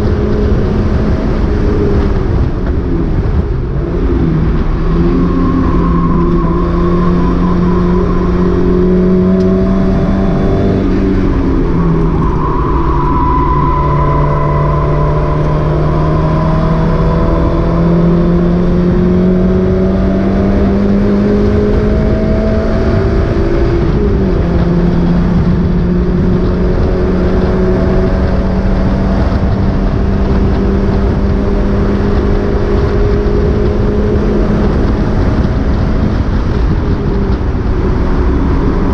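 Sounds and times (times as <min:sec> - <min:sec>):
race car engine revving high: 0:03.7 - 0:36.8.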